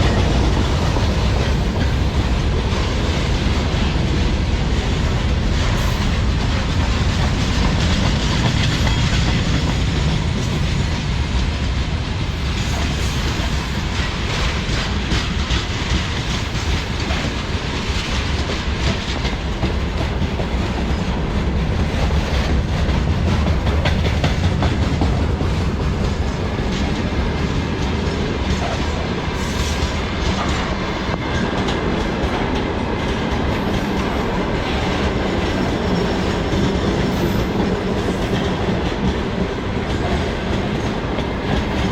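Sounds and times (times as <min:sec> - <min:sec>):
heavy train rumble: 0:00.0 - 0:41.9
train wheels clickety-clack: 0:00.0 - 0:41.9.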